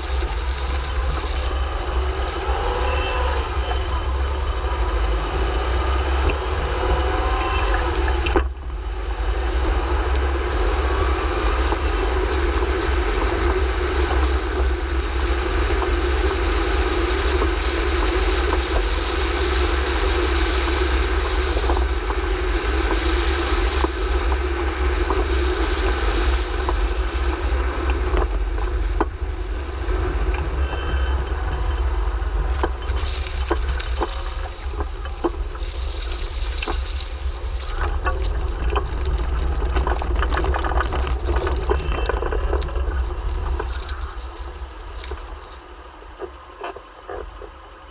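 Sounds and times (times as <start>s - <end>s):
road and wind rumble: 0.0s - 47.9s.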